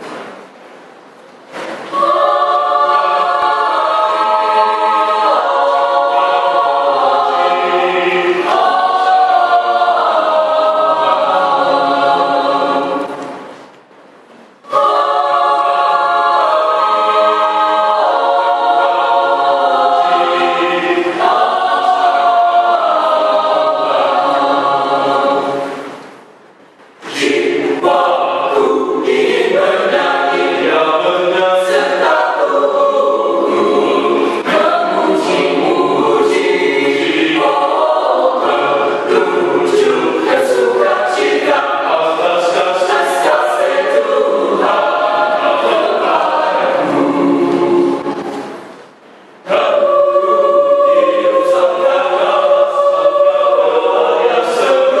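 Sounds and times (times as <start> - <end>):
mixed choir singing unaccompanied: 1.5 - 13.6, 14.6 - 26.2, 27.0 - 55.0.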